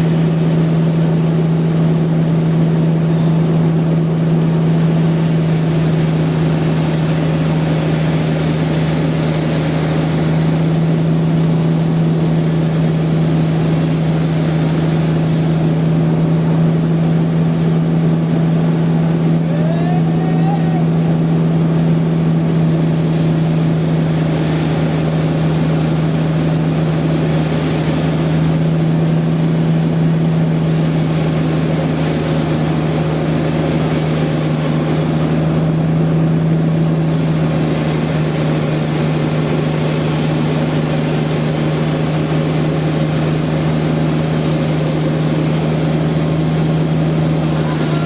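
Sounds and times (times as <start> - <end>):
sawmill machinery droning: 0.0 - 48.0.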